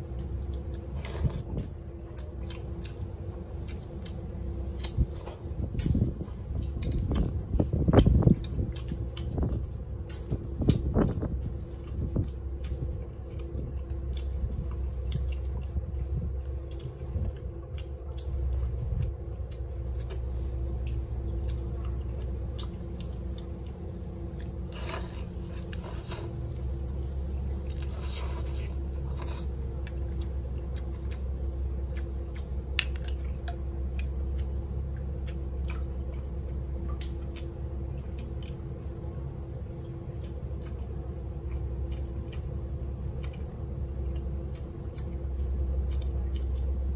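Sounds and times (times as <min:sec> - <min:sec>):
low hum: 0:00.0 - 0:46.9
person chewing food: 0:00.0 - 0:46.9.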